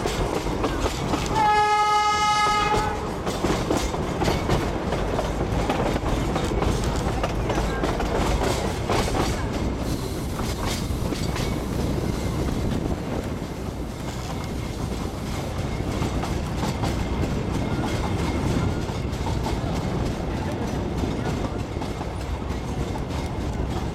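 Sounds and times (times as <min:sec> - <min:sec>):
train rumble: 0:00.0 - 0:23.9
wheels clicking over rail joints: 0:00.0 - 0:23.9.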